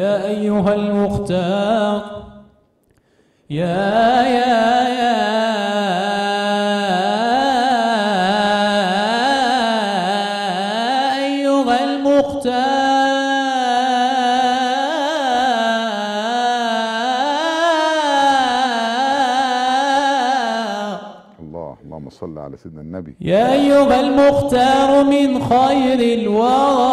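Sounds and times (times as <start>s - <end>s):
person singing devotional chant: 0.0s - 2.6s, 3.4s - 26.9s.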